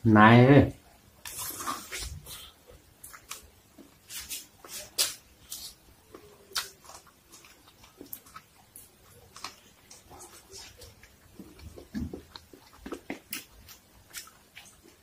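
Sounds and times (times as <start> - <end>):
person chewing corn on the cob: 1.2 - 15.0.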